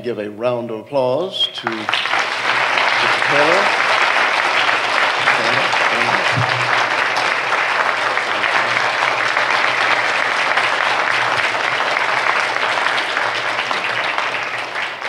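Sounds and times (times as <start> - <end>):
audience applause: 1.6 - 15.0.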